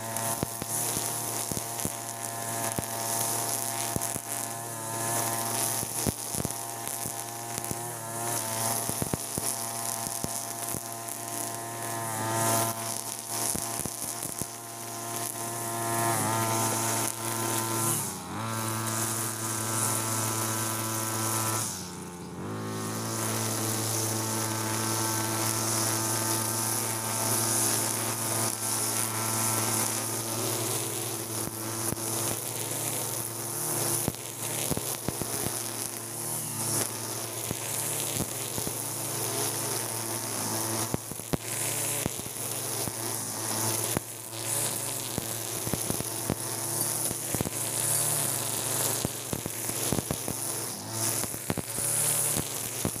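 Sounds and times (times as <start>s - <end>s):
brush cutter engine running: 0.0s - 53.0s
trimmer line whirring through grass: 0.0s - 53.0s.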